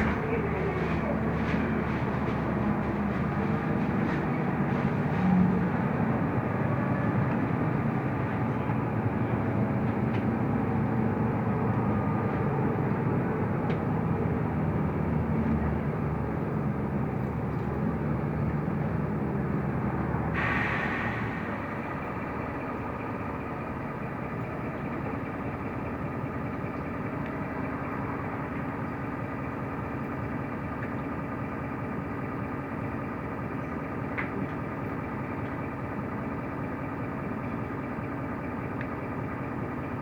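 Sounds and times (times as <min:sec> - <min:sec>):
bus engine and road rumble: 0:00.0 - 0:40.0.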